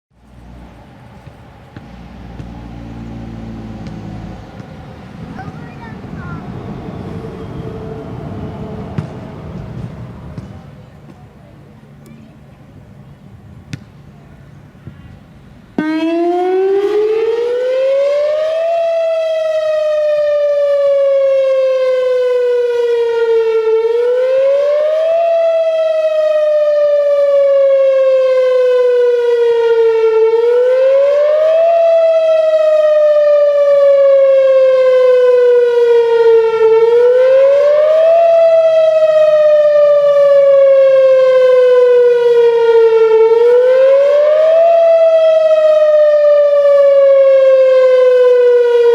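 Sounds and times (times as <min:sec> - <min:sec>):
warning siren wailing: 0:01.5 - 0:10.8, 0:15.8 - 0:48.9.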